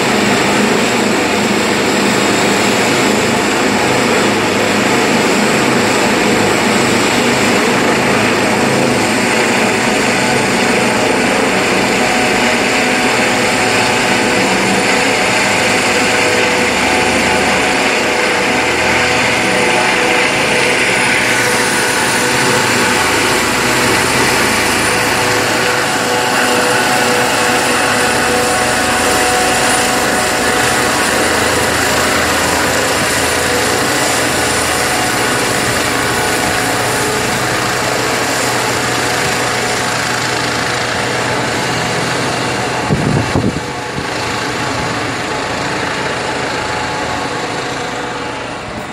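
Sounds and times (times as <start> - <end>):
helicopter turbine and rotor: 0.0 - 48.9.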